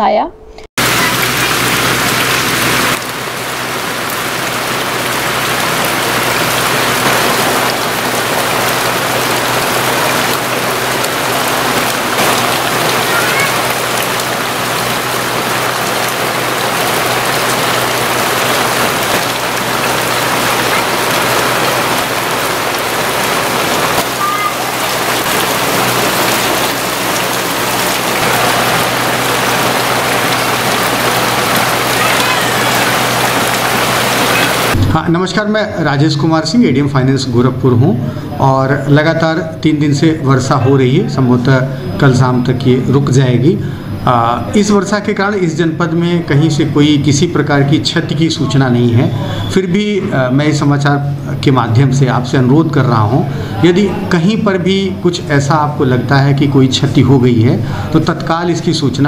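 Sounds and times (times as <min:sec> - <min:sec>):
steady rain falling: 0:00.8 - 0:59.0.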